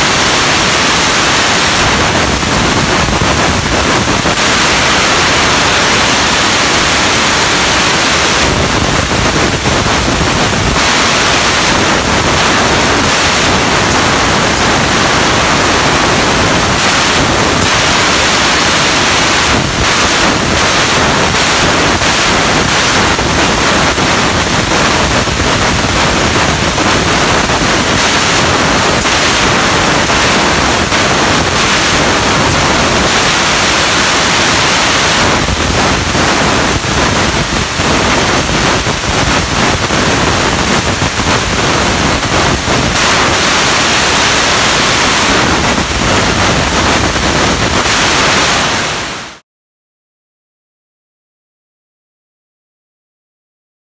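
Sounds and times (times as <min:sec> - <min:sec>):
laser cutting machine hissing: 0:00.0 - 0:48.2.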